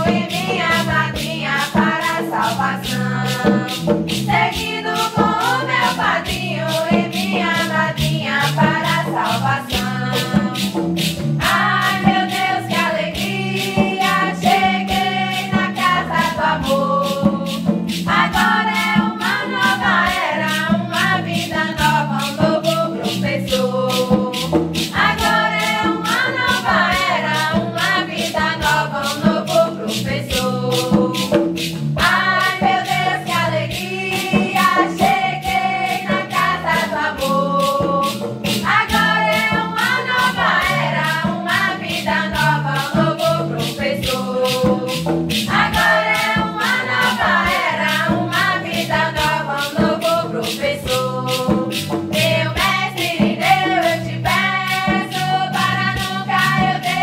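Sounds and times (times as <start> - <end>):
acoustic guitar: 0.0 - 57.0
group of voices singing a hymn: 0.0 - 57.0
hand drum: 0.0 - 57.0
maracas shaking: 0.0 - 57.0.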